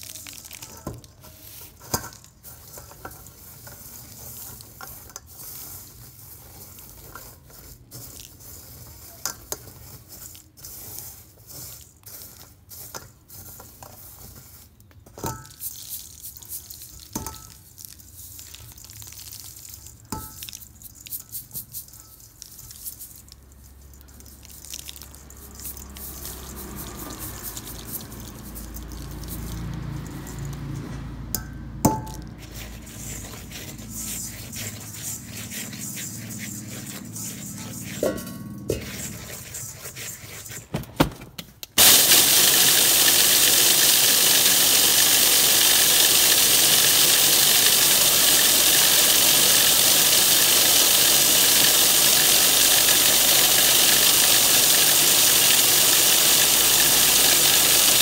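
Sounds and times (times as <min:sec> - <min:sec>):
grains pattering into steel bowl: 0:00.0 - 0:40.5, 0:41.8 - 0:58.0.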